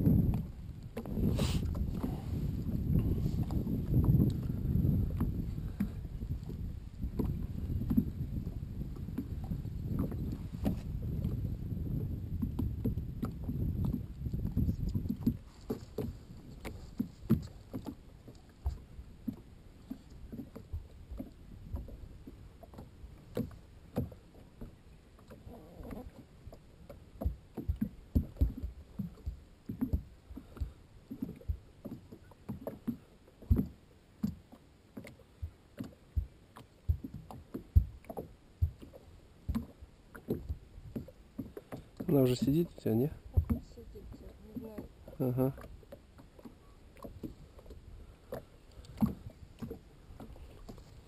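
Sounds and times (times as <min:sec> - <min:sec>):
waves slapping boat hull: 0:00.0 - 0:51.0.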